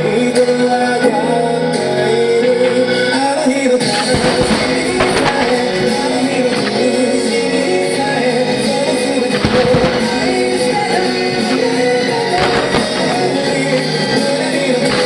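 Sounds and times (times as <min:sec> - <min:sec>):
song with singing and instruments: 0:00.0 - 0:15.0.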